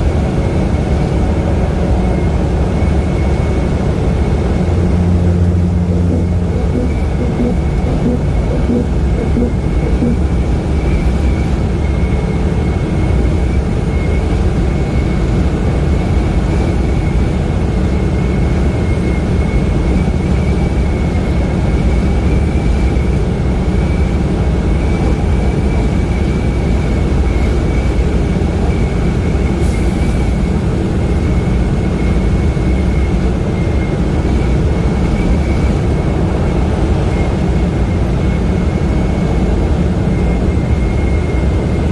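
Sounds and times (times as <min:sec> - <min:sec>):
vehicle road and engine noise: 0:00.0 - 0:41.9.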